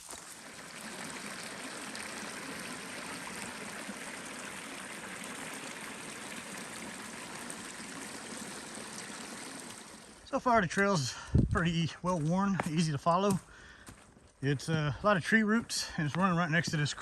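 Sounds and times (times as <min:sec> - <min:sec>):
creek flowing: 0:00.0 - 0:17.0.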